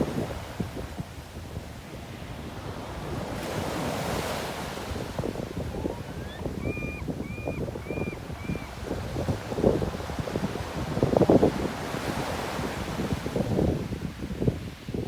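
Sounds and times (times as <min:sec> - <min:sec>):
sea waves washing on shore: 0:00.0 - 0:15.0
wind buffeting microphone: 0:00.0 - 0:15.0.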